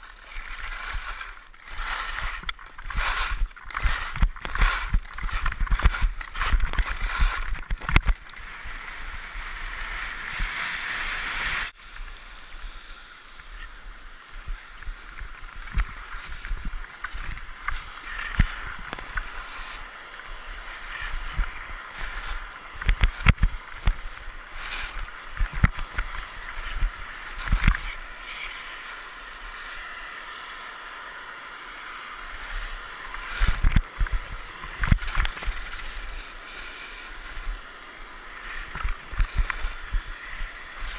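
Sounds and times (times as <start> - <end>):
skis knocking on bumps: 0.0 - 10.8, 14.4 - 28.9, 32.4 - 37.6, 38.4 - 40.9
skis scraping over snow: 0.0 - 40.9.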